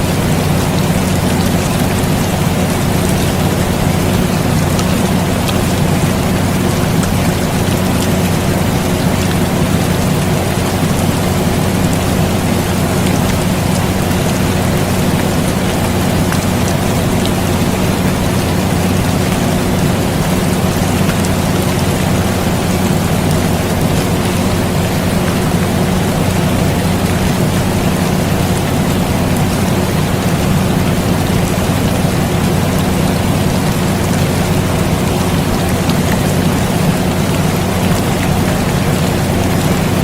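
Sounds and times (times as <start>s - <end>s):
air conditioner hum: 0.0s - 40.0s
rain hissing: 0.0s - 40.0s
raindrop ticks: 0.0s - 40.0s.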